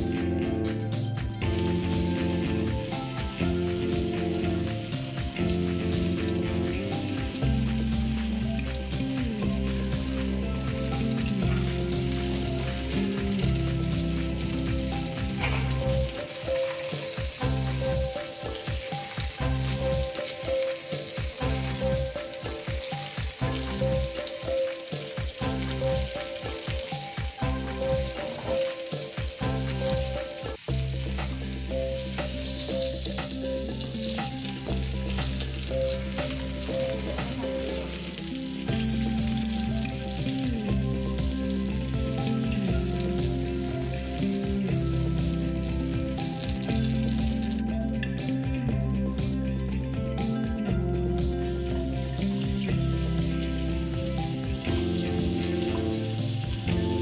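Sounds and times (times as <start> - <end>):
kebabs sizzling in oil: 0.0 - 57.0
soft background music: 0.0 - 57.0.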